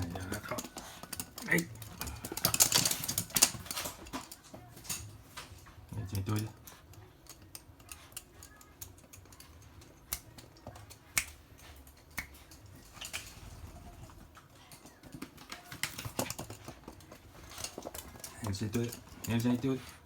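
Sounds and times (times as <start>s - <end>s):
dog claws clicking on hard floor: 0.0s - 20.0s.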